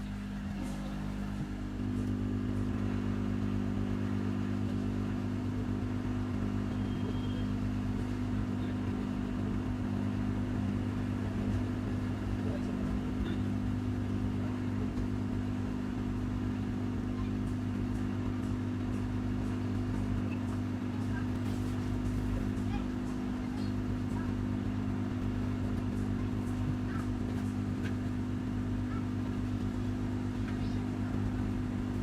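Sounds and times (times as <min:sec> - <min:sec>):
motor hum: 0:00.0 - 0:32.0.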